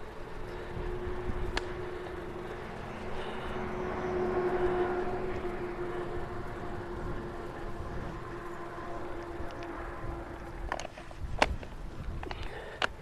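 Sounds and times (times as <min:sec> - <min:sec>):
bicycle tyres on gravel: 0:00.0 - 0:13.0
wind rumble on camera: 0:00.0 - 0:13.0.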